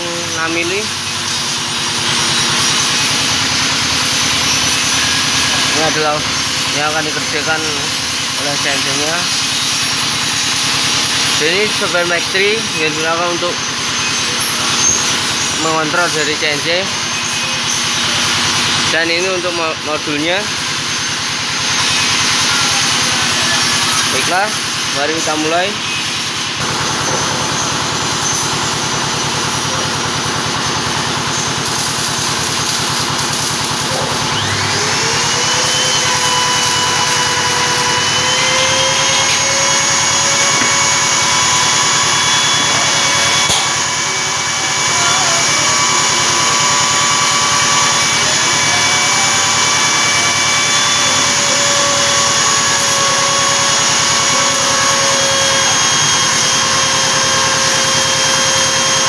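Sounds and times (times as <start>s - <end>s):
cnc router spindle whine: 0.0s - 31.6s, 33.7s - 59.0s.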